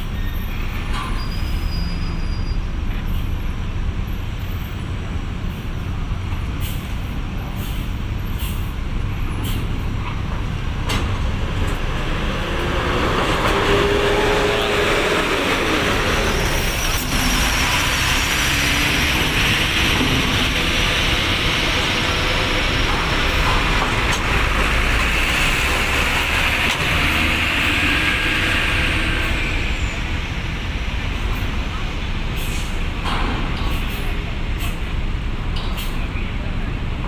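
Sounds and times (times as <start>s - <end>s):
diesel engines driving: 0.0s - 37.0s.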